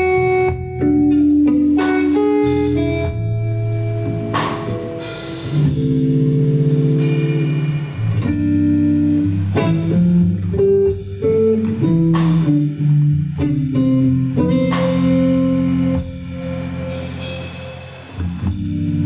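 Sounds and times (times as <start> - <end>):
bass guitar line: 0.0 - 19.0
electric guitar melody: 0.0 - 19.0.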